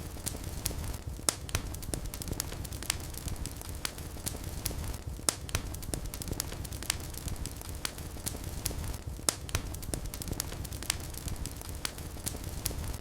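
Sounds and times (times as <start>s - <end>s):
low rumble of flames: 0.0s - 13.0s
wood fire crackling and popping: 0.0s - 13.0s.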